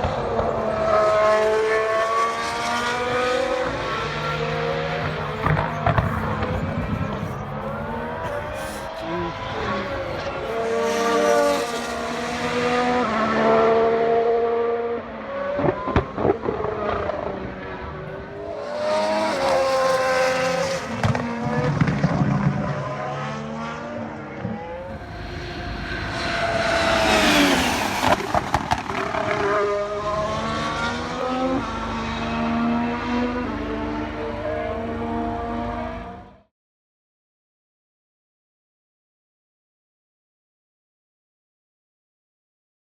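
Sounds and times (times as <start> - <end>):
racing car engines passing: 0.0 - 36.4.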